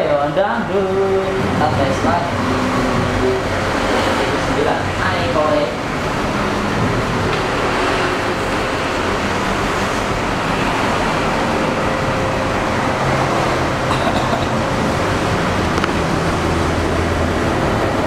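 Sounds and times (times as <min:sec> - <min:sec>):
loud rushing noise: 0:00.0 - 0:18.0.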